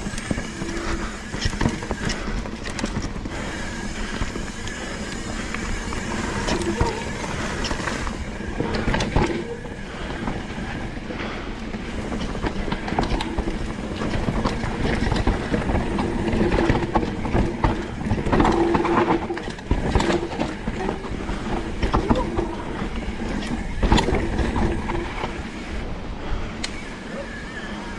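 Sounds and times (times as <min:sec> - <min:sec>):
bike tyres rolling over rocks: 0:00.0 - 0:27.9.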